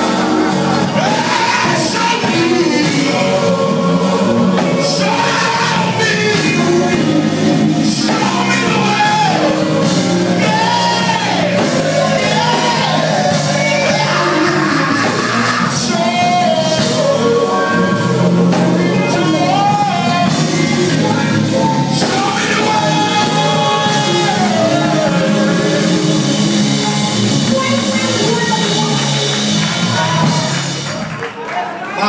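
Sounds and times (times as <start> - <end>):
person singing: 0.0 - 30.8
live band playing upbeat music: 0.0 - 32.0.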